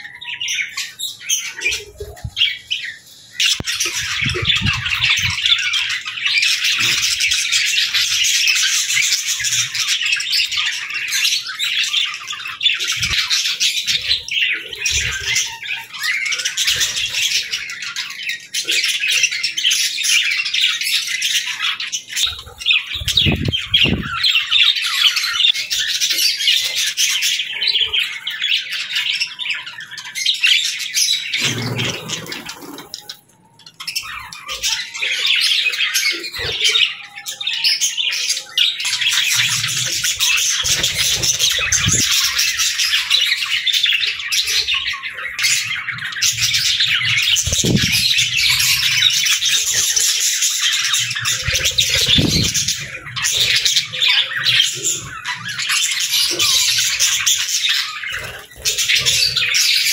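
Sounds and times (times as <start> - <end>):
budgerigars chattering: 0.1 - 59.9.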